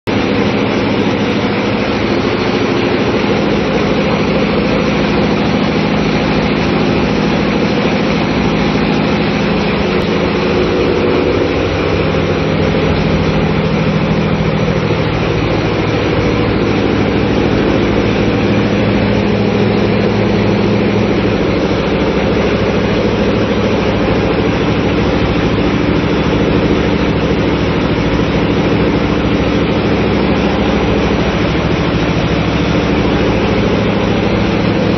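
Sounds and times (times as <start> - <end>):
engine room machinery drone: 0.0 - 34.9.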